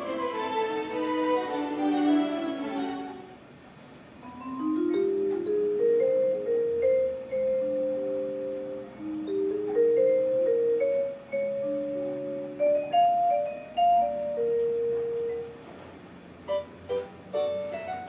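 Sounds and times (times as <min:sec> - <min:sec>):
electronic keyboard demo melody: 0:00.0 - 0:03.4, 0:04.2 - 0:15.8, 0:16.4 - 0:18.0.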